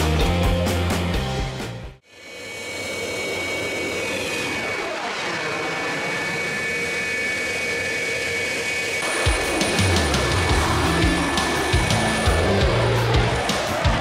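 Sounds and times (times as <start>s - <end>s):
jet engine rushing whine: 2.1s - 14.0s.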